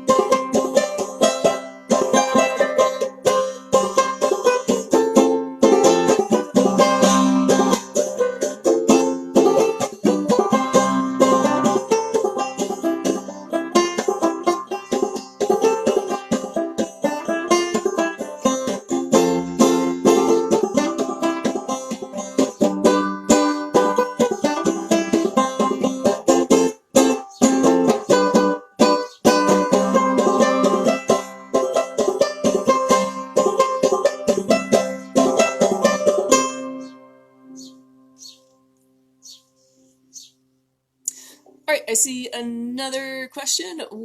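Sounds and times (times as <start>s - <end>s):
banjo plucked notes: 0.0s - 40.3s.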